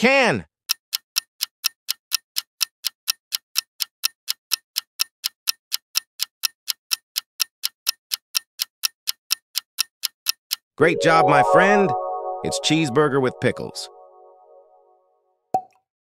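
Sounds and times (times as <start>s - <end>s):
clock ticking: 0.6s - 14.2s.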